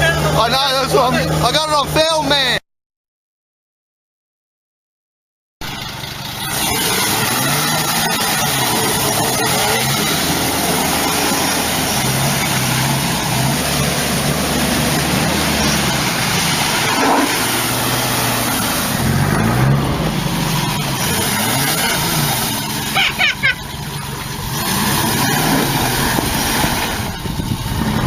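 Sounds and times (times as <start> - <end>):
off-road vehicle engine revving: 0.0 - 2.6, 5.6 - 28.0.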